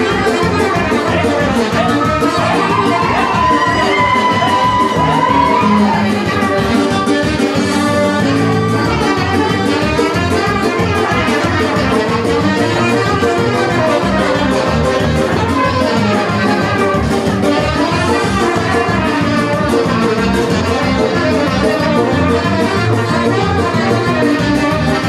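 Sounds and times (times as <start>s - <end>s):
brass dance music: 0.0s - 25.0s.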